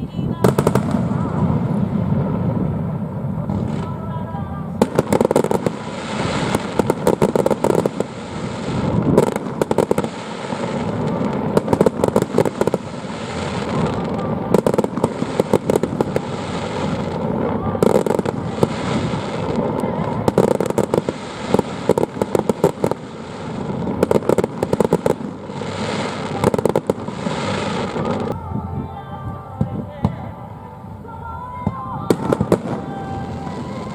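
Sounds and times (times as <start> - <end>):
fireworks crackling: 0.0 - 28.4, 31.6 - 33.9
low rumble of firework bursts: 0.4 - 28.6.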